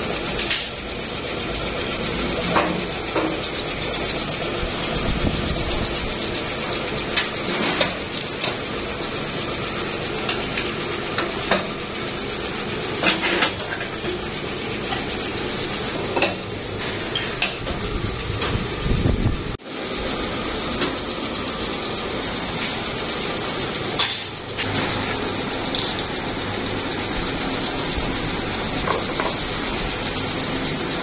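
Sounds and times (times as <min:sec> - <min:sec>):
workshop machinery running: 0:00.0 - 0:31.0.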